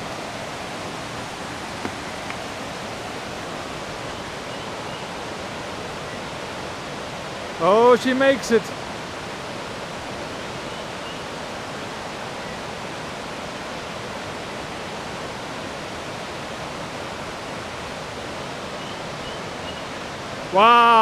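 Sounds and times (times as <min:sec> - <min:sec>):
river water rushing over cascades: 0:00.0 - 0:21.0.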